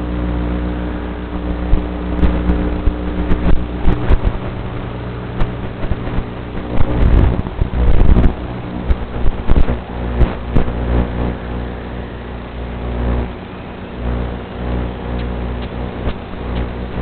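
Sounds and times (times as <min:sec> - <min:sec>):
quadcopter motors humming: 0:00.0 - 0:17.0
wind buffeting microphone: 0:00.9 - 0:17.0.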